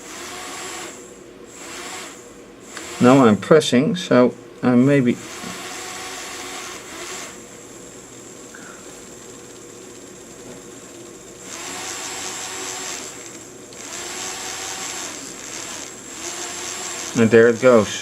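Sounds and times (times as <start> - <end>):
small electric motor whirring: 0.0 - 3.3, 5.2 - 18.0.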